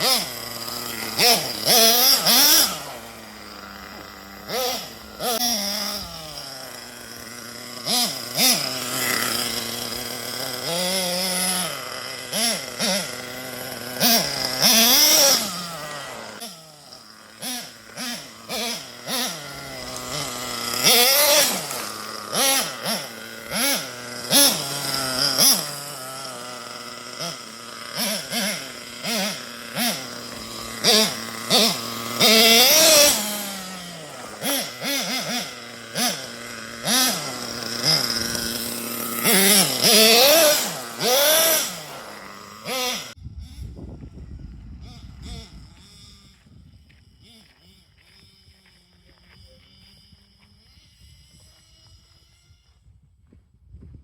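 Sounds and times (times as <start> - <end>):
small engine whining revs: 0.0 - 54.0.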